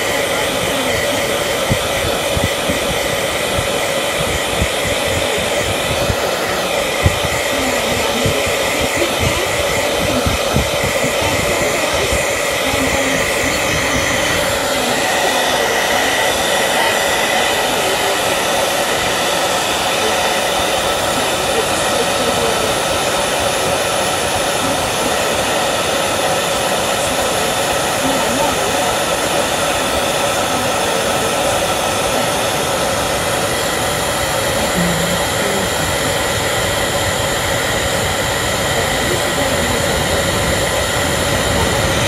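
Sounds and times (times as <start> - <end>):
whirring machine noise: 0.0 - 42.0.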